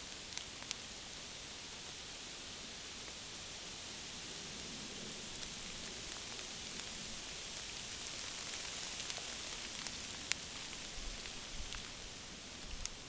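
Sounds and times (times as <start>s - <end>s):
rain falling on leaves: 0.0s - 13.0s.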